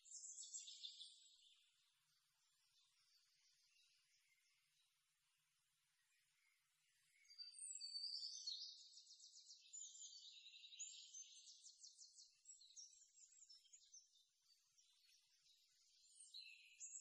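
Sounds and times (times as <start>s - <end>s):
faint high-pitched chirping and trills: 0.0s - 17.0s.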